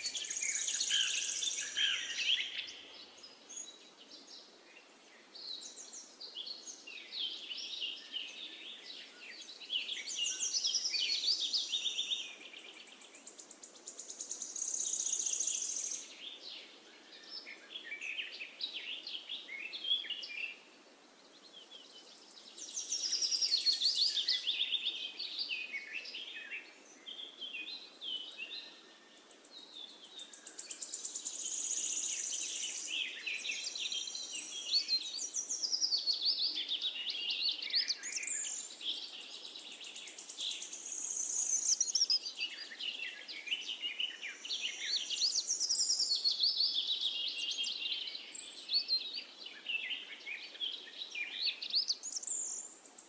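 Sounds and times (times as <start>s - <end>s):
birds singing: 0.0s - 53.0s.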